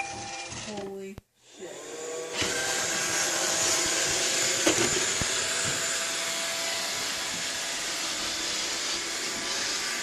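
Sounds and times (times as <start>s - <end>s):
robot vacuum whirring: 1.5s - 10.0s.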